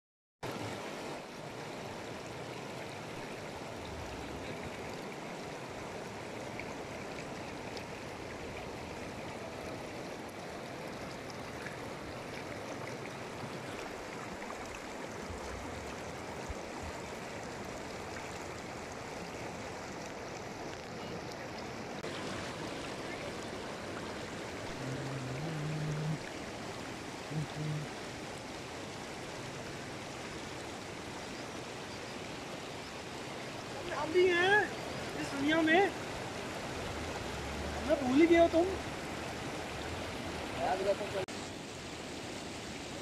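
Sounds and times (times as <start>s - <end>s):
river rushing over stones: 0.4s - 43.0s.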